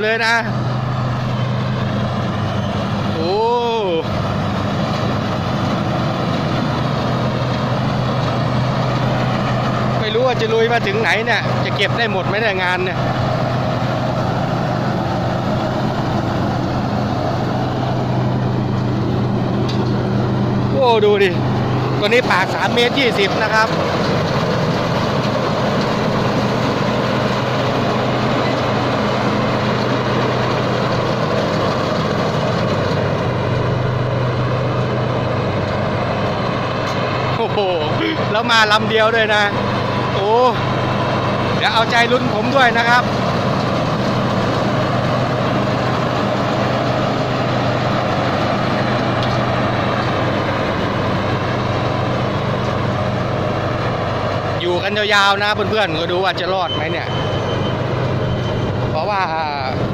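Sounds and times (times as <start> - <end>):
diesel engine running under load: 0.0 - 59.9
harvesting machinery clatter and hiss: 0.0 - 59.9.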